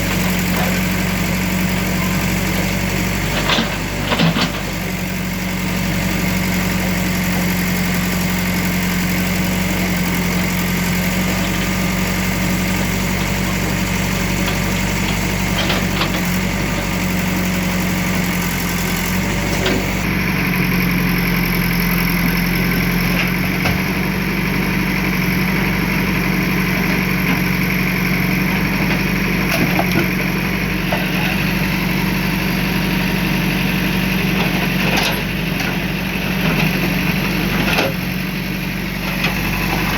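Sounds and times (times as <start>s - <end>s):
demolition machine engine running: 0.0s - 39.9s.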